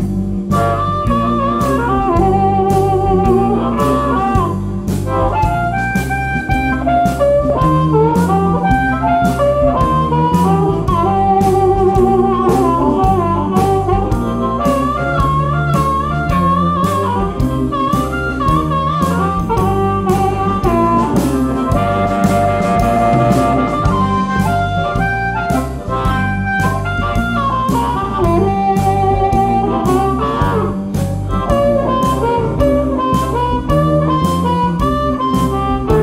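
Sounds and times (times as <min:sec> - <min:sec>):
harmonica with bending notes: 0:00.0 - 0:36.0
live blues band playing: 0:00.0 - 0:36.0
steady drum beat: 0:00.0 - 0:36.0.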